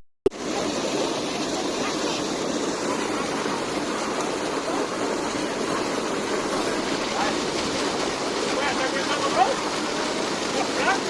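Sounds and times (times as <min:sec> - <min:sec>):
water rushing over rocks: 0:00.3 - 0:11.0.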